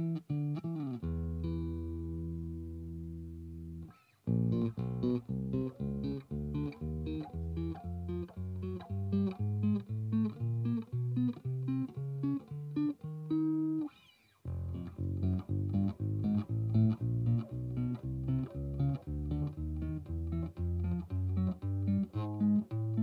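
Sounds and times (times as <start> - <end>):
electric bass played fingerstyle: 0.0 - 23.0.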